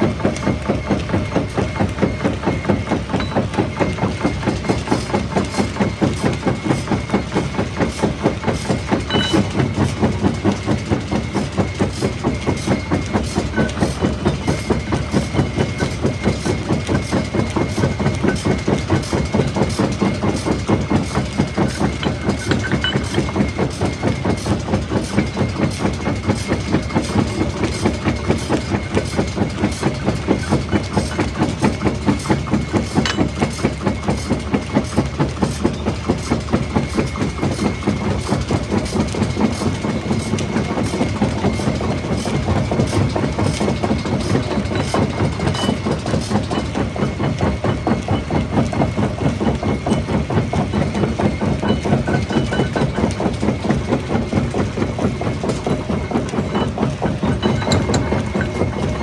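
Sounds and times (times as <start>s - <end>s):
rock crusher pulsing: 2.8s - 59.0s.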